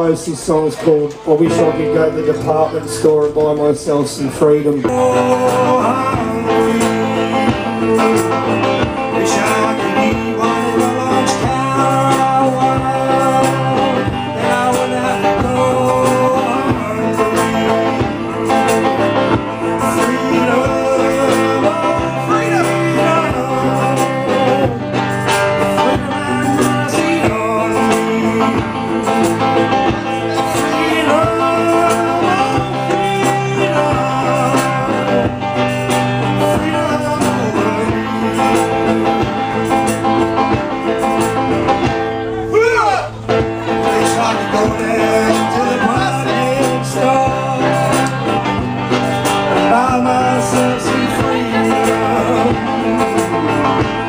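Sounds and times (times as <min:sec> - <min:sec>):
guitar playing: 0:00.0 - 0:54.0
person singing: 0:04.8 - 0:40.2, 0:43.6 - 0:54.0.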